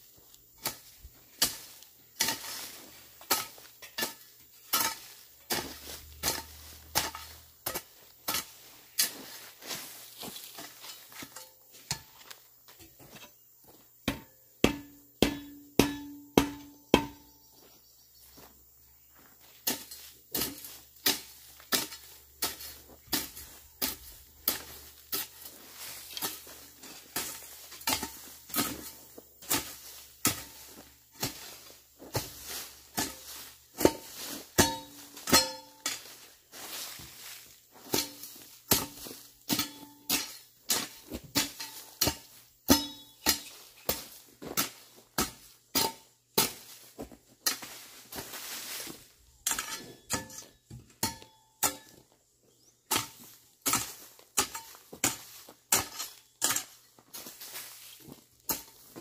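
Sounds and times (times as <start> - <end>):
hoe chopping into soil: 0.6 - 13.1, 14.1 - 17.4, 19.6 - 52.0, 52.6 - 57.8.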